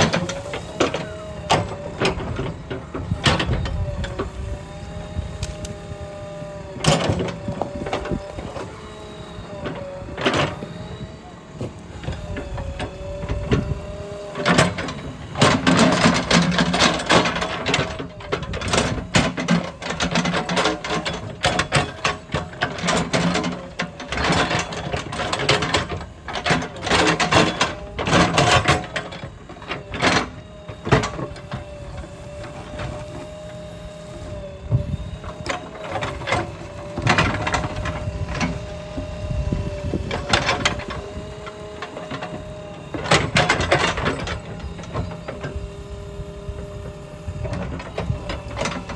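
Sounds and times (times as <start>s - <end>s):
engine and hydraulic whine: 0.0s - 48.9s.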